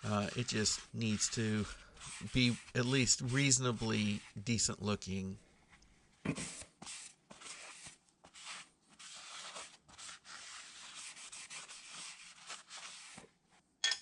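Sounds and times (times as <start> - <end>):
cloth rubbing on metal: 0.0 - 4.7, 6.4 - 13.3.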